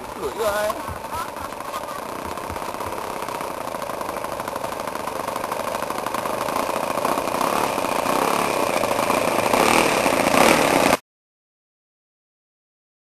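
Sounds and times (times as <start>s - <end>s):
model plane engine pulsing: 0.0s - 11.0s.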